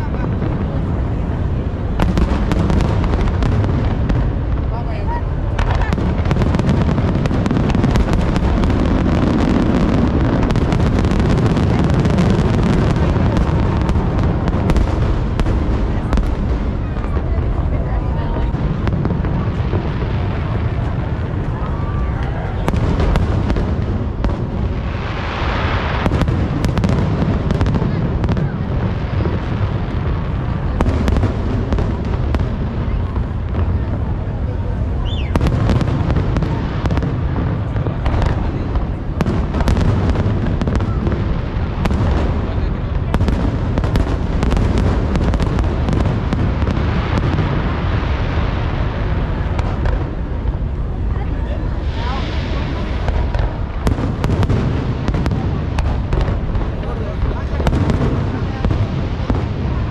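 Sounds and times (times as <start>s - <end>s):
fireworks booming: 0.0s - 59.9s
fireworks cracks and pops: 0.0s - 59.9s.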